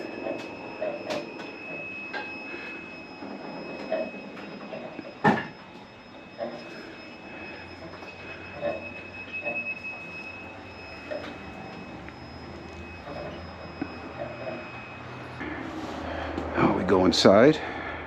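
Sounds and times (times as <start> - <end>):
car lift whining: 0.0 - 17.8.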